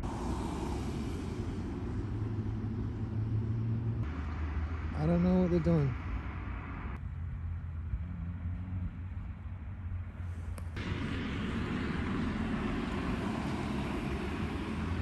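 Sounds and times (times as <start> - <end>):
road traffic rumble: 0.0 - 15.0
vehicles passing: 0.0 - 15.0.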